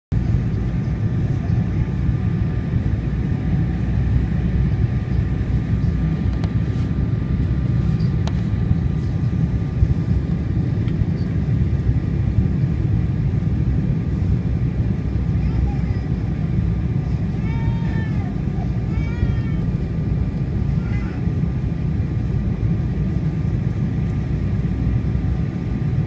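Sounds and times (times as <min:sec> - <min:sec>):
engine and airflow rumble: 0:00.1 - 0:26.0.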